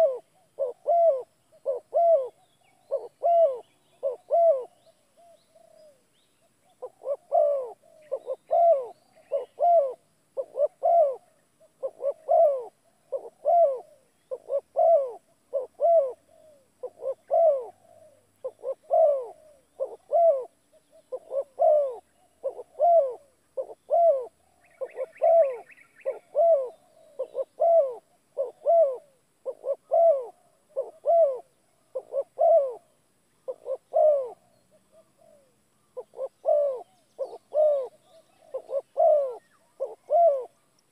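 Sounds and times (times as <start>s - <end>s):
bird calling: 0.0s - 40.9s.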